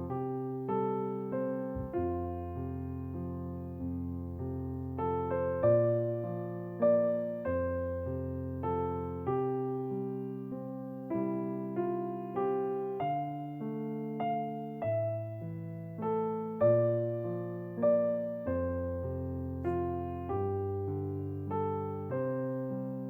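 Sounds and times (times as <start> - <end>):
slow gentle piano piece: 0.0 - 23.0.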